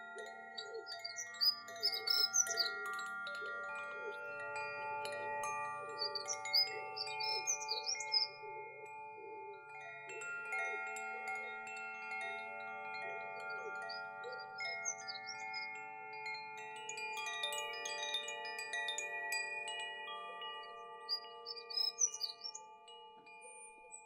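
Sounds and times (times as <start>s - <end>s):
small birds chirping: 0.0s - 8.6s, 11.3s - 24.0s
wind chimes ringing: 0.0s - 24.0s.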